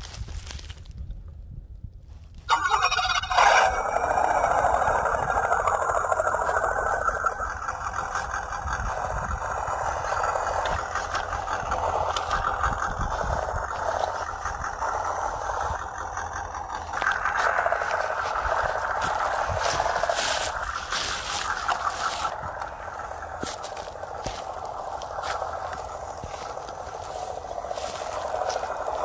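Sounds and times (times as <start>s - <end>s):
tyres crunching over dry leaves: 0.0s - 1.0s, 2.1s - 29.0s
small electric motor whining: 2.8s - 29.0s.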